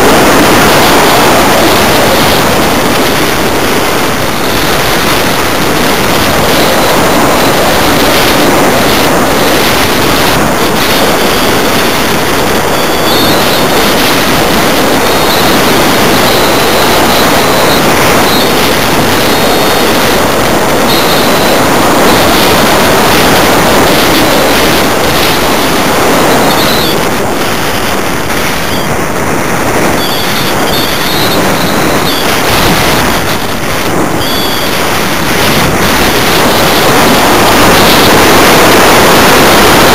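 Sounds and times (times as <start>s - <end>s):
faint high-pitched whines: 0.0s - 39.9s
wind rushing over microphone: 0.0s - 39.9s.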